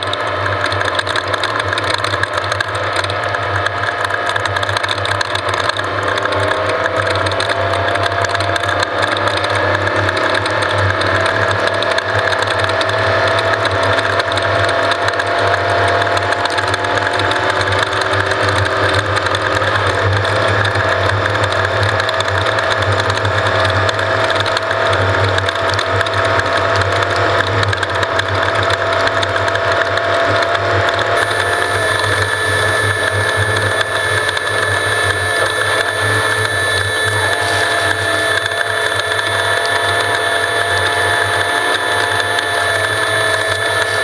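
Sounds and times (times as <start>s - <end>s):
off-road vehicle engine at speed: 0.0s - 44.0s.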